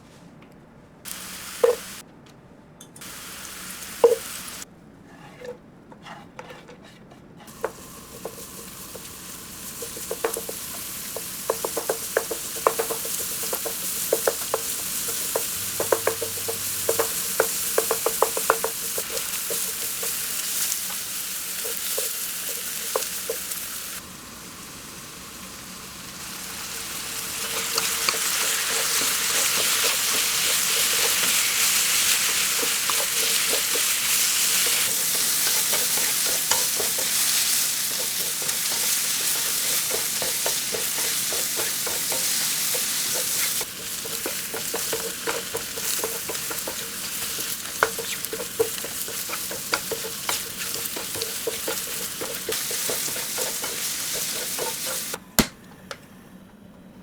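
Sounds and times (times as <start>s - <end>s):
food sizzling in frying pan: 1.1s - 2.0s, 3.0s - 4.7s, 7.5s - 55.2s
utensil tapping and scraping pan: 1.6s - 2.0s, 4.0s - 4.4s, 5.1s - 23.6s, 27.4s - 56.0s.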